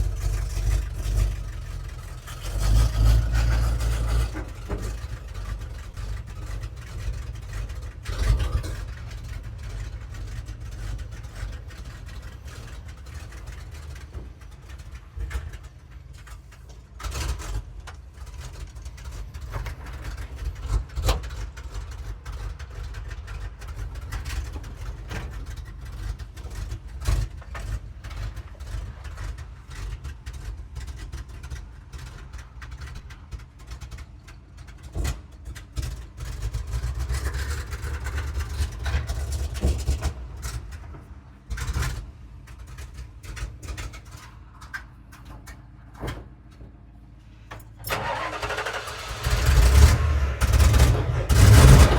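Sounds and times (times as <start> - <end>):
vehicle engine idling: 0.0 - 51.9.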